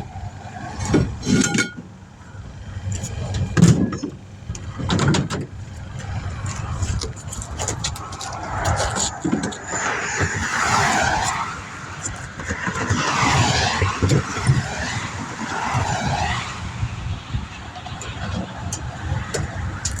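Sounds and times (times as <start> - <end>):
low traffic rumble: 0.0 - 20.0
tyres hissing on road: 0.0 - 20.0.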